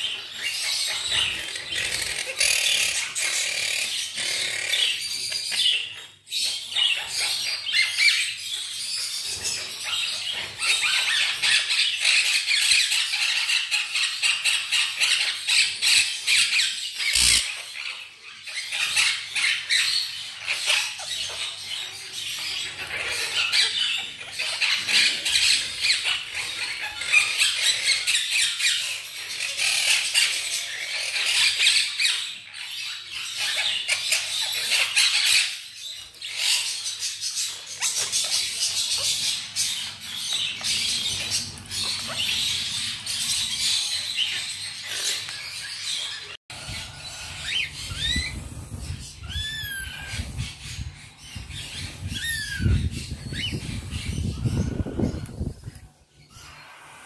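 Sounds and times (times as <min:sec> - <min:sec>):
parakeets chattering and squawking: 0:00.0 - 0:57.0.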